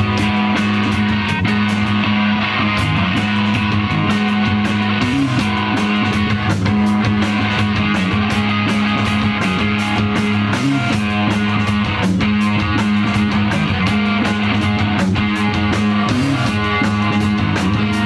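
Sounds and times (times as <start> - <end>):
bass guitar: 0.0 - 18.0
drumbeat with cymbals: 0.0 - 18.0
electric guitar: 0.0 - 18.0.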